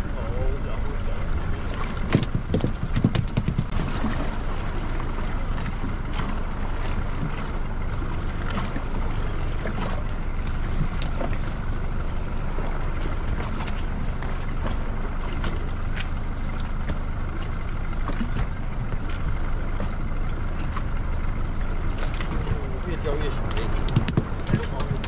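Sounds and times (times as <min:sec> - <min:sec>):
boat engine low rumble: 0:00.0 - 0:25.0.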